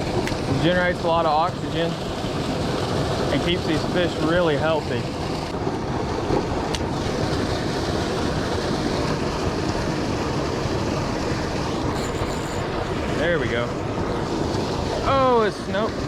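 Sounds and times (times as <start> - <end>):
water pouring over spillway: 0.0 - 16.0.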